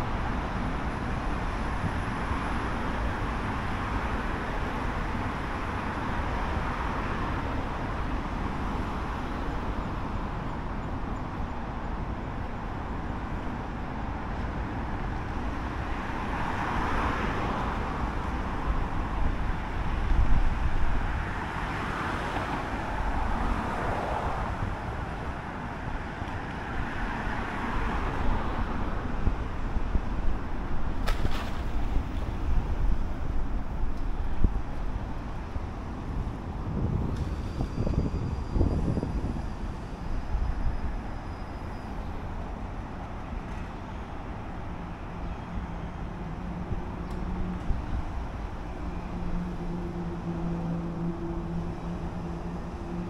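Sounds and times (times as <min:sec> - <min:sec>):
road traffic noise: 0:00.0 - 0:53.0
vehicles passing: 0:00.0 - 0:53.0.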